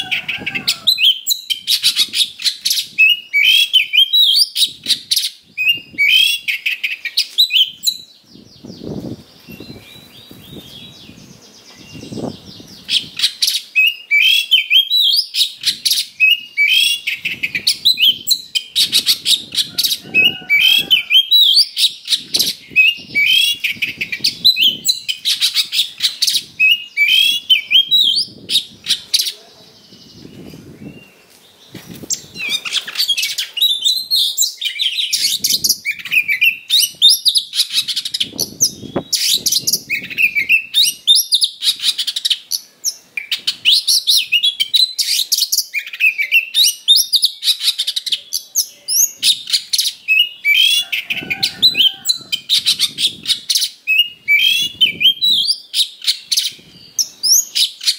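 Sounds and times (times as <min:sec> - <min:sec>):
bird singing rapid whistles: 0:00.9 - 0:11.2, 0:11.8 - 0:19.6, 0:20.2 - 0:29.1, 0:32.1 - 0:50.9, 0:51.7 - 0:57.9.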